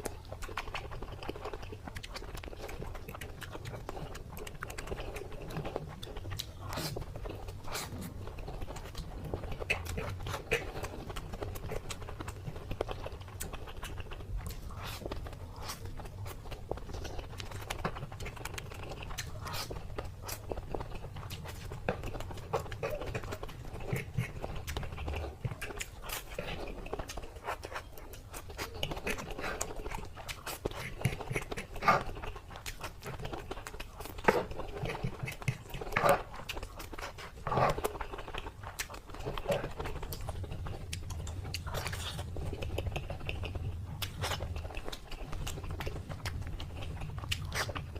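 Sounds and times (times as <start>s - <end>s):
person chewing crispy food: 0.0s - 47.9s.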